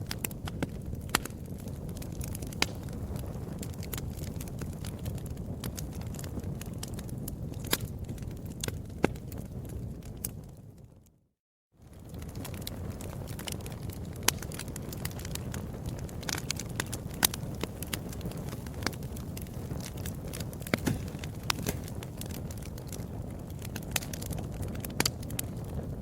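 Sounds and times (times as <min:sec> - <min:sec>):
sharp pops of fire: 0:00.0 - 0:10.5, 0:11.9 - 0:26.0
wood fire crackling: 0:00.0 - 0:11.1, 0:11.8 - 0:26.0
low rumble of flames: 0:00.0 - 0:11.2, 0:11.8 - 0:26.0.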